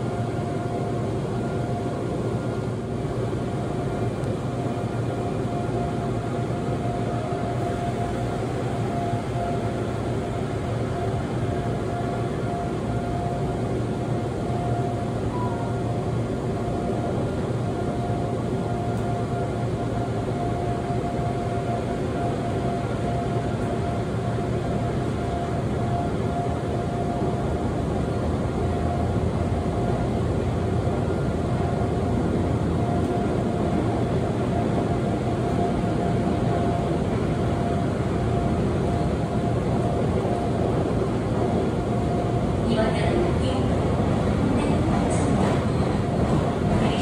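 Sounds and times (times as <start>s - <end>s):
constant train whine: 0.0s - 47.0s
train wheels rumbling on rail: 0.0s - 47.0s.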